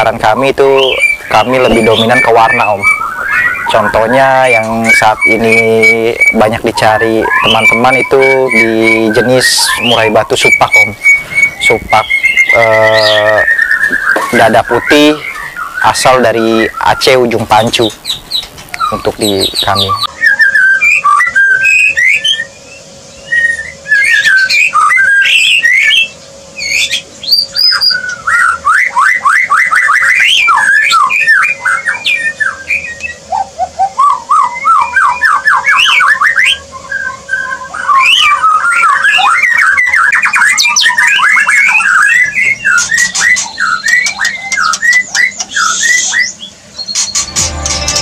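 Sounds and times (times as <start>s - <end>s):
songbird singing whistles and trills: 0.0s - 48.0s.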